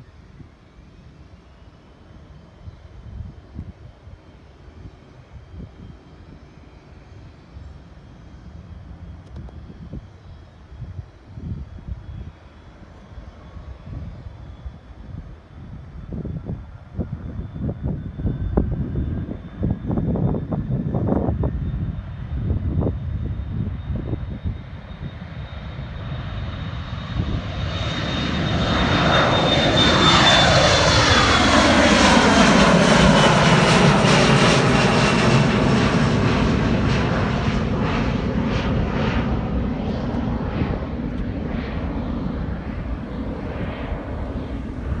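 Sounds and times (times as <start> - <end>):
jet airliner engine roar and whine: 0.0 - 45.0.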